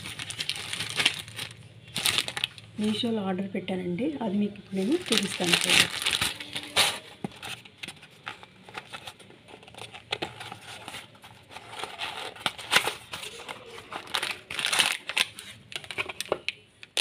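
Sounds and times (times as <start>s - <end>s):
plastic packaging crinkling: 0.0s - 3.2s, 4.6s - 17.0s.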